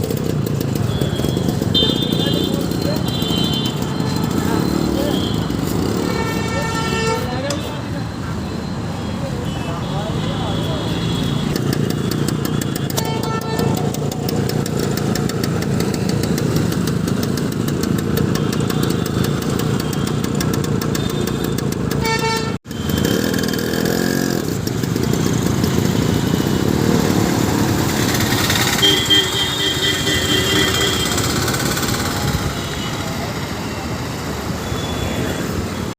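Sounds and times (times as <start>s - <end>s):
motorcycle engine running: 0.0s - 6.7s, 11.1s - 34.6s.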